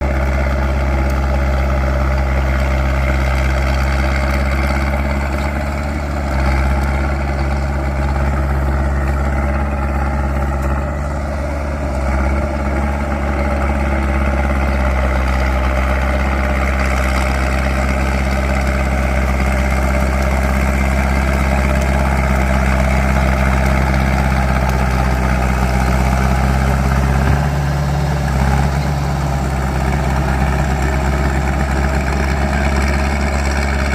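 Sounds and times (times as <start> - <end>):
bulldozer diesel engine running: 0.0 - 33.9
bulldozer scraping ground: 0.0 - 33.9.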